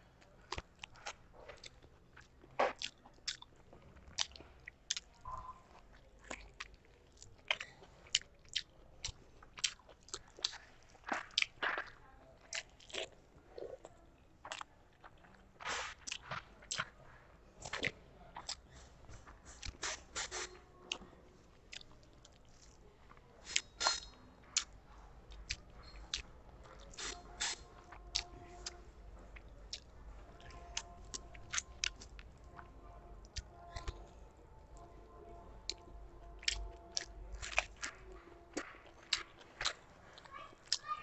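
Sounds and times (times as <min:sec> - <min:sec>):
person chewing food: 0:00.2 - 0:34.9, 0:35.6 - 0:40.9.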